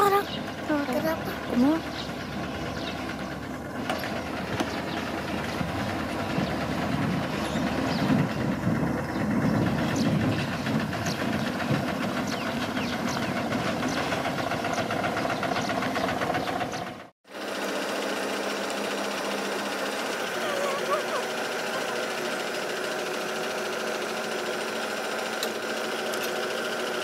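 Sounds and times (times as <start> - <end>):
diesel engine rattling and clanking: 0.0 - 27.0
steady engine hum: 0.0 - 27.0.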